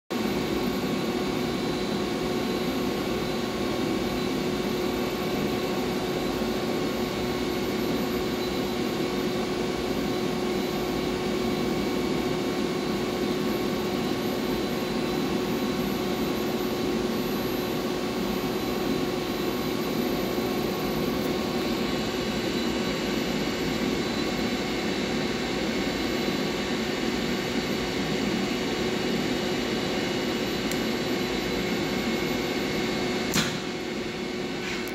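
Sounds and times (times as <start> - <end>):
robot arm mechanical hum and whir: 0.3 - 34.9.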